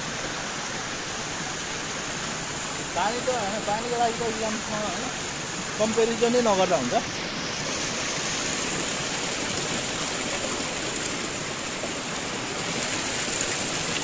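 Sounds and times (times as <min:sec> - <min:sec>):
water gushing from pipe: 0:00.0 - 0:14.0
water splashing onto rocks: 0:02.3 - 0:14.0.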